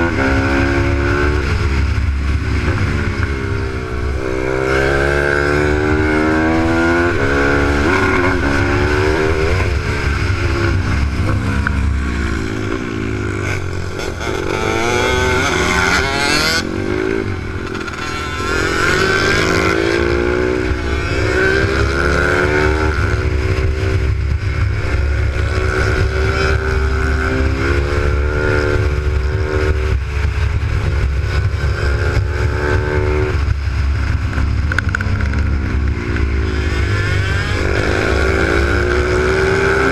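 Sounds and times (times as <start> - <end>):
motorcycle engine revving: 0.0 - 39.9
rumble of wind and road: 0.0 - 39.9.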